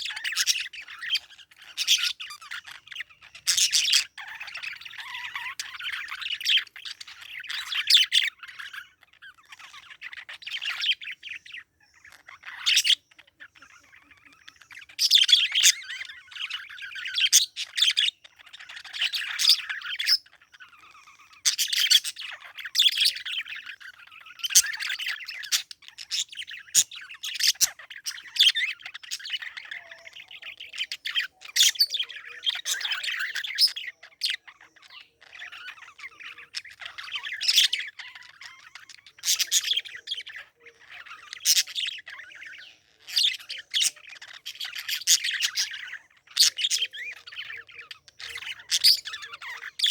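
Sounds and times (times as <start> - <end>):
parakeet chirping and chattering: 0.0 - 49.9.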